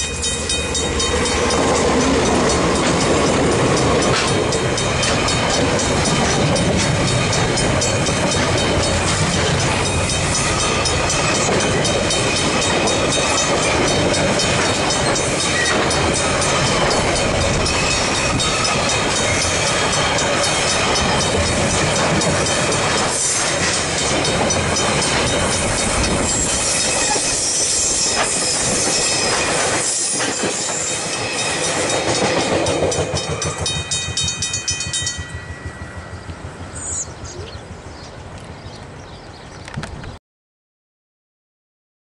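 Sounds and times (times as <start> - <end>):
train wheels clattering on rails: 0.0 - 37.5
crossing bells ringing: 0.0 - 38.1.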